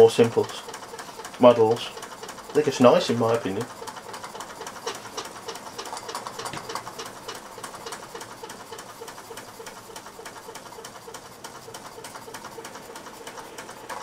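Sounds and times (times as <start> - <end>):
toy steam engine ticking: 0.0 - 14.0.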